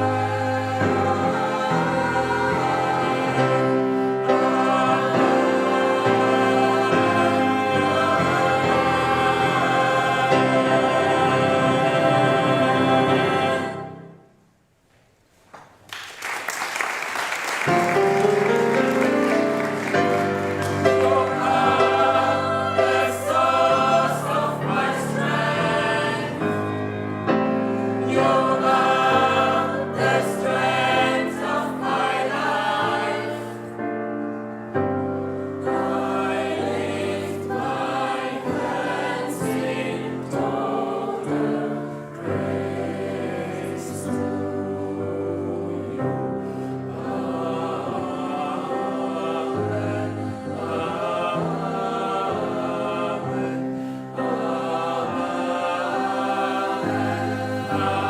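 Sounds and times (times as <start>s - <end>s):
gospel choir singing: 0.0s - 14.4s, 17.2s - 58.0s.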